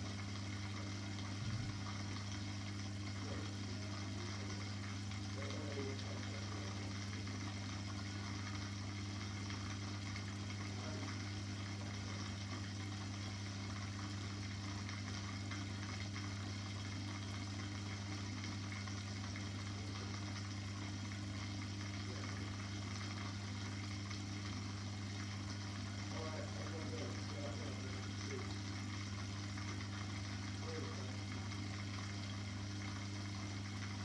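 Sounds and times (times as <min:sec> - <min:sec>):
aquarium pump humming: 0:00.0 - 0:34.0.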